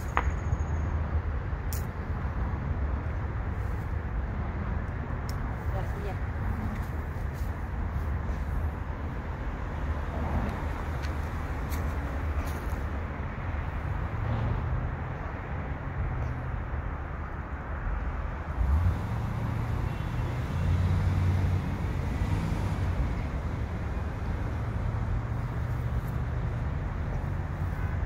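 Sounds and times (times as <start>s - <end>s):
outdoor background rumble: 0.0s - 28.0s.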